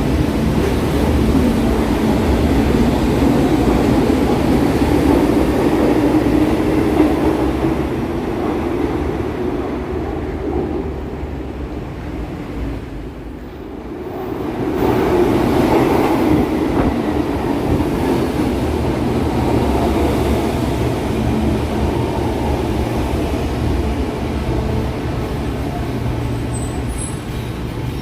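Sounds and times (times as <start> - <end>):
train wheels on rail: 0.0 - 28.0.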